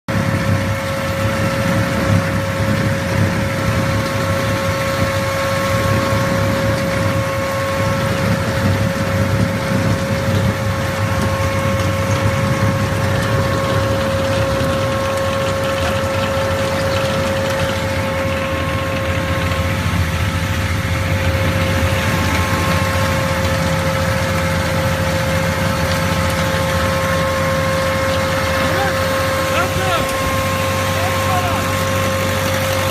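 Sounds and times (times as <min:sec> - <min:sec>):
machine whine: 0:00.1 - 0:32.9
tractor engine running: 0:00.1 - 0:32.9.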